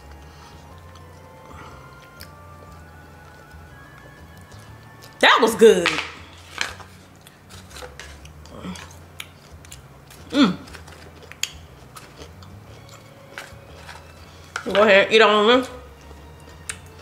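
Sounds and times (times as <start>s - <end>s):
person chewing food: 0.0s - 5.2s, 6.1s - 14.7s, 15.8s - 17.0s.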